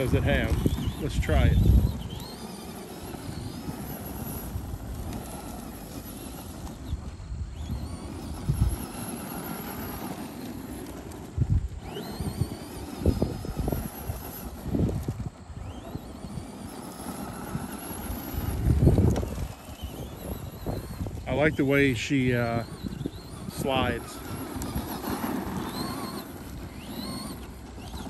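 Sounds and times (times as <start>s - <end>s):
electric motor whining: 0.0s - 28.0s
tyres crunching on gravel: 0.0s - 28.0s.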